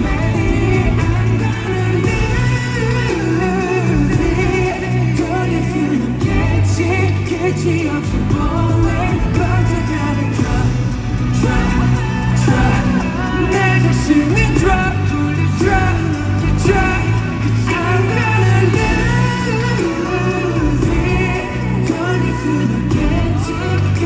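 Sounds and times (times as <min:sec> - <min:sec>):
backing track over sound system: 0:00.0 - 0:24.0
man singing pop song live: 0:00.0 - 0:24.0.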